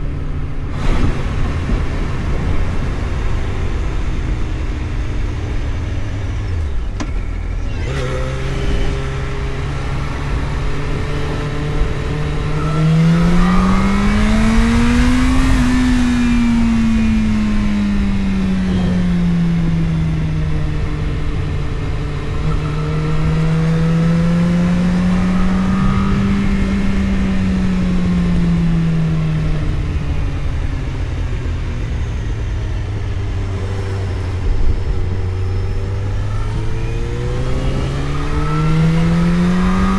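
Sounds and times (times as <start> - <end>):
road and wind noise: 0.0 - 39.9
vehicle engine revving: 0.0 - 39.9.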